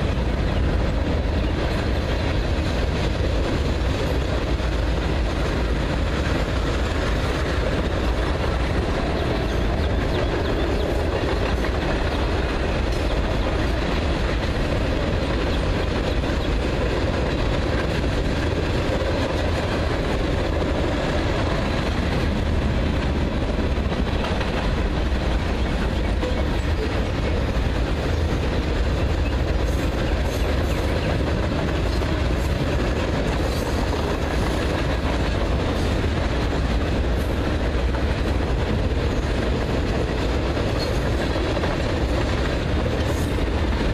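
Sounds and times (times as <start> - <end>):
rail clicks: 0.0 - 43.9
steel wheels rumbling on rails: 0.0 - 43.9.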